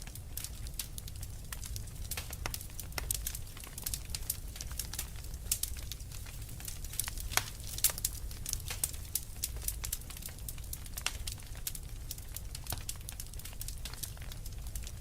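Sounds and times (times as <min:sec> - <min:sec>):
fire low rumble: 0:00.0 - 0:15.0
wood fire pops and snaps: 0:00.0 - 0:15.0.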